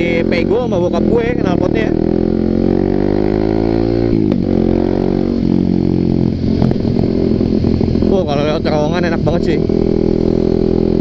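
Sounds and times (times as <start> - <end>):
motorcycle accelerating: 0.0 - 11.0.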